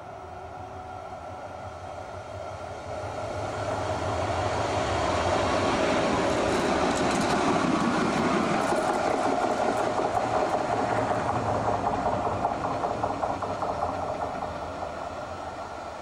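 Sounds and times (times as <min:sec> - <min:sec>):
tram wheels on rail: 0:00.0 - 0:16.0
clicks of passing tram cars: 0:00.3 - 0:16.0.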